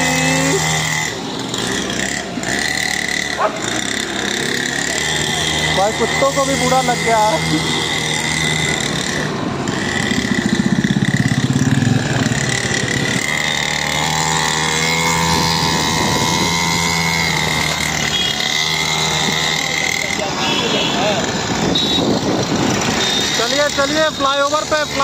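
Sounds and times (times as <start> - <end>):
mini dirt bike engine: 0.0 - 25.0
road noise: 0.0 - 25.0
scooter engine: 0.0 - 25.0.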